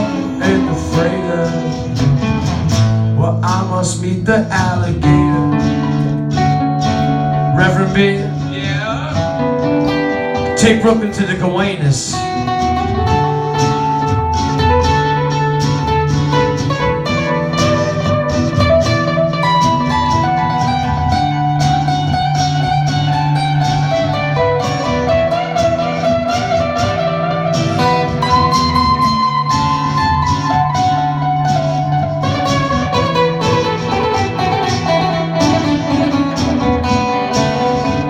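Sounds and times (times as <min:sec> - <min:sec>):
acoustic band playing: 0:00.0 - 0:38.0.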